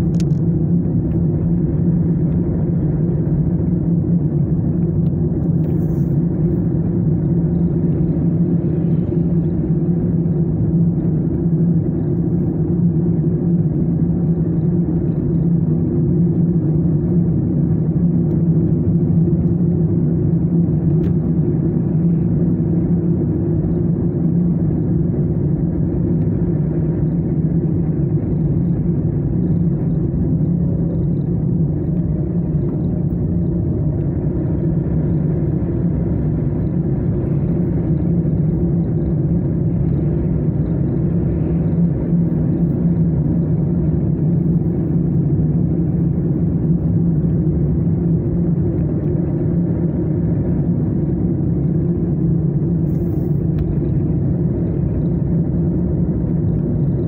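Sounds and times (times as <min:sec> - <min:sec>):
car cabin engine and tyre drone: 0:00.0 - 0:57.0.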